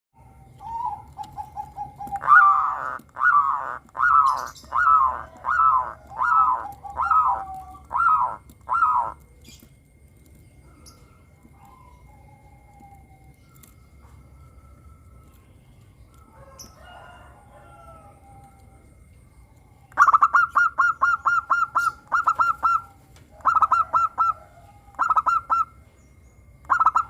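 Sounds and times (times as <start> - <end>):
dove cooing: 0.2 - 25.9, 26.6 - 27.0.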